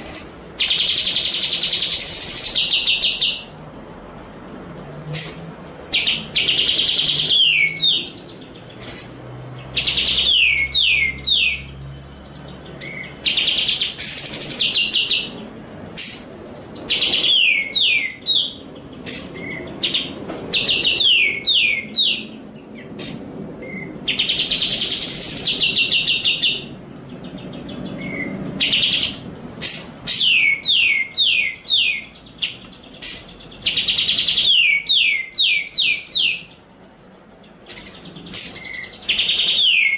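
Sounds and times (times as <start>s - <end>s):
songbird song: 0.0s - 3.6s, 5.0s - 39.9s.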